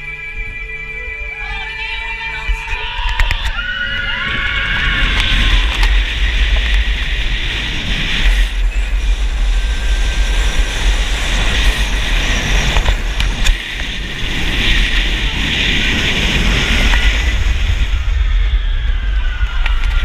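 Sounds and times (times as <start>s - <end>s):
wind buffeting microphone: 2.4s - 20.0s
roller coaster clicks and rattles: 2.5s - 20.0s.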